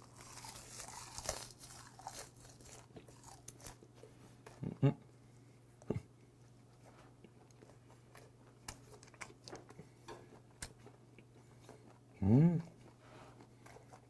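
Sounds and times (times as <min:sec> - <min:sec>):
person chewing: 0:00.0 - 0:04.9, 0:05.8 - 0:14.0
low steady hum: 0:00.0 - 0:14.0.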